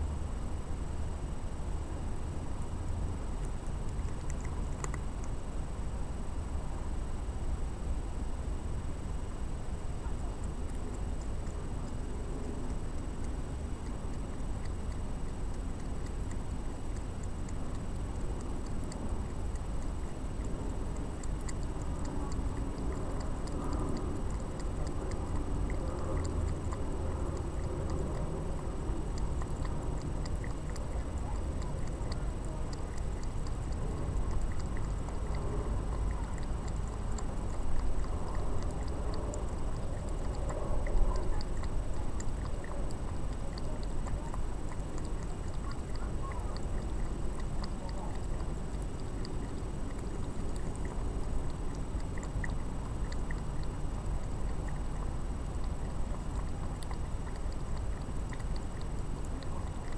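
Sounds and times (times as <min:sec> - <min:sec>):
cat crunching food: 0:03.4 - 0:05.8, 0:11.2 - 0:59.9.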